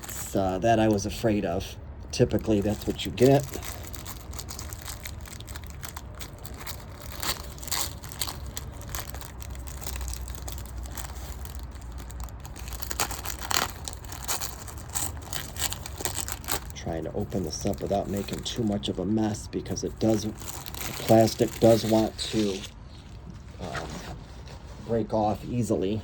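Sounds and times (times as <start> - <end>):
plastic wrapper crackling: 0.0 - 1.5, 2.1 - 19.0, 19.7 - 23.3.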